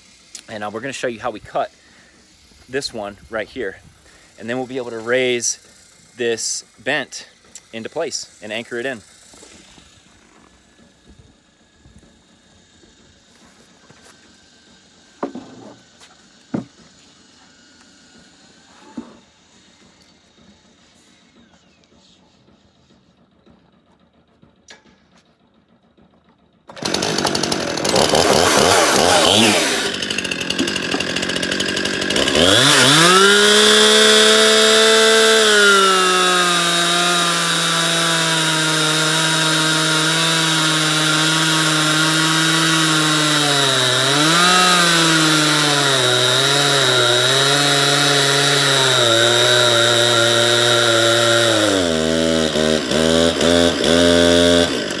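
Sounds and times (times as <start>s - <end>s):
chainsaw cutting wood: 0.0s - 21.6s, 26.0s - 55.0s.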